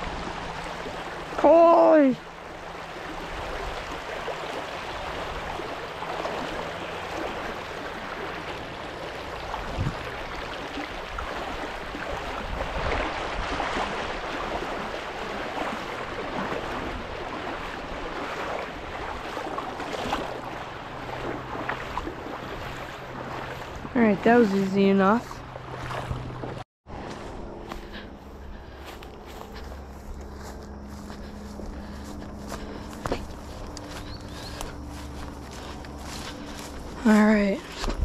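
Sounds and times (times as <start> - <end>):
river water rushing and splashing: 0.0 - 38.0.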